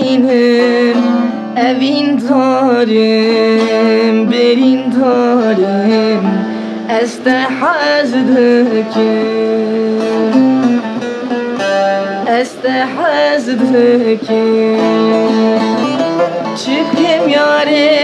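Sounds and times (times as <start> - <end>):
plucked string instrument melody: 0.0 - 18.0
sustained backing notes: 0.0 - 18.0.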